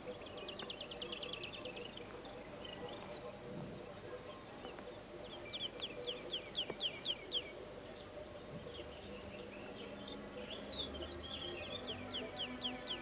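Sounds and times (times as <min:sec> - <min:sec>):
bird chirps: 0:00.0 - 0:13.0
faint outdoor ambience: 0:00.0 - 0:13.0.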